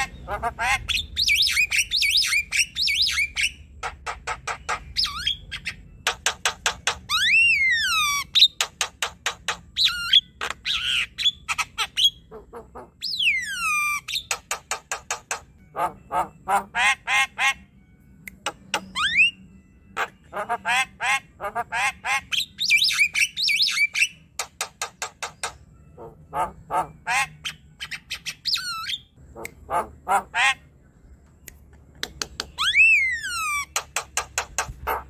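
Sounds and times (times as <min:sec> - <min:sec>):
bird singing: 0:00.0 - 0:35.0.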